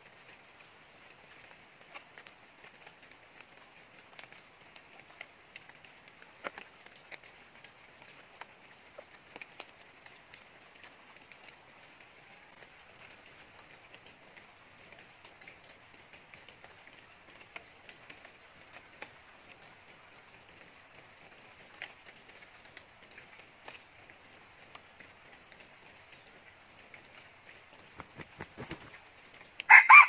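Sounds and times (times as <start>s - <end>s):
crackles of dry leaf litter: 0.0s - 30.0s
forest ambience high hiss: 0.0s - 30.0s.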